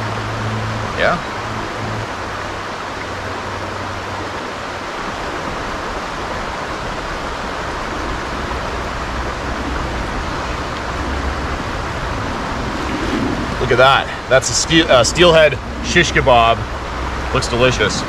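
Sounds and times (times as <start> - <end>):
creek flowing over stones: 0.0 - 18.0.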